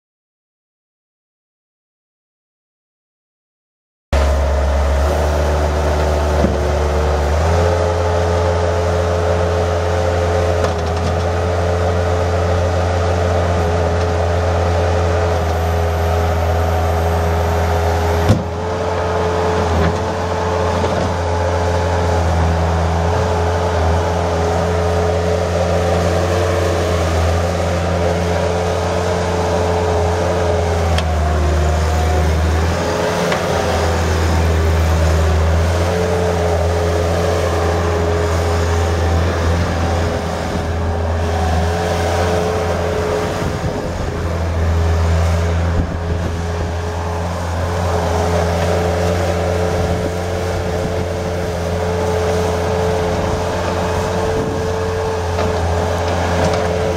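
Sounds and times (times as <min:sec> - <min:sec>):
skid steer diesel engine running: 0:04.2 - 0:56.9
steady mechanical whine: 0:04.2 - 0:56.9.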